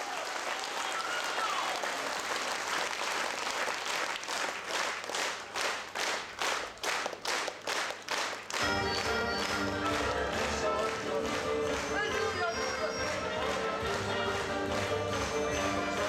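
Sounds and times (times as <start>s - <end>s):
audience applauding: 0.0s - 16.0s
rhythmic clapping in unison: 1.8s - 16.0s.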